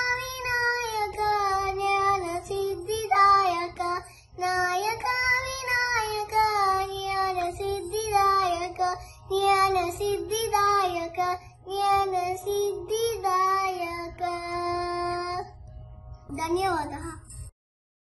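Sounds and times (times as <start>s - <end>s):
girl singing devotional song: 0.0s - 17.5s.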